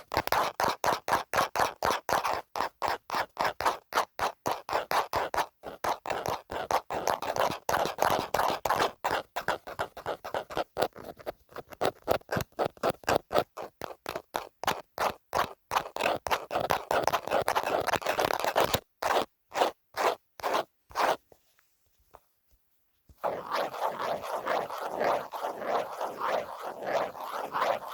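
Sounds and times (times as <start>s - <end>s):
scratching on phone case: 0.0s - 27.9s.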